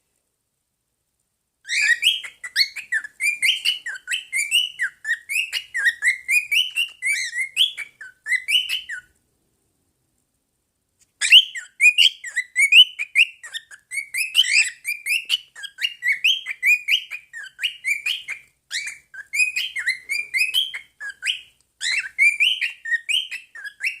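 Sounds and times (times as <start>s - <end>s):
pet birds chirping and warbling: 1.7s - 9.1s, 11.2s - 24.0s.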